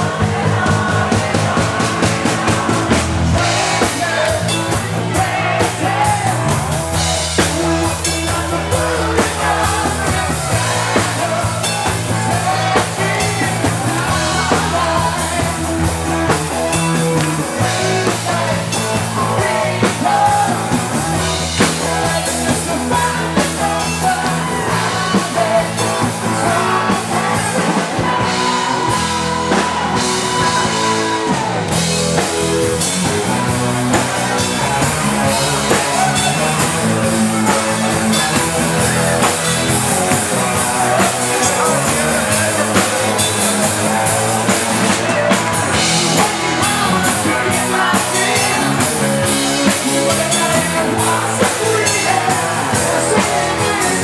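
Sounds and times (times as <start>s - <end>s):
drum kit beat: 0.0s - 54.0s
guitar: 0.0s - 54.0s
loud rock music: 0.0s - 54.0s
person singing: 0.0s - 54.0s.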